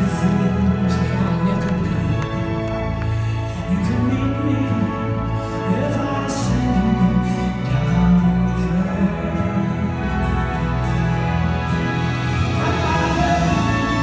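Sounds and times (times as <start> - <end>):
symphony orchestra playing slowly: 0.0 - 14.0.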